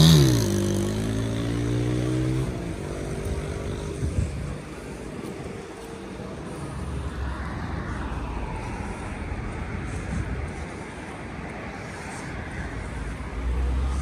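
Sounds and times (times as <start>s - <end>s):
car passing by: 0.0s - 14.0s
traffic rumble: 0.0s - 14.0s.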